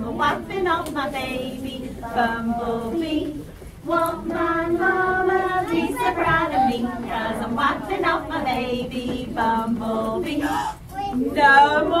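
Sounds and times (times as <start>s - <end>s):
children and woman singing: 0.0s - 12.0s.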